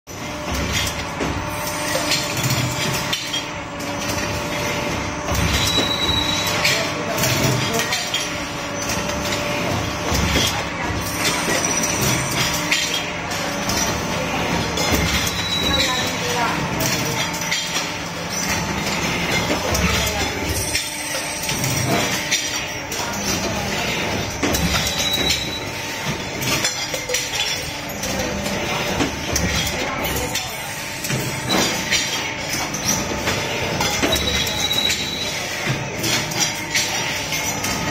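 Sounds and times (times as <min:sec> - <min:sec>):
mechanical din of production line: 0:00.1 - 0:37.9.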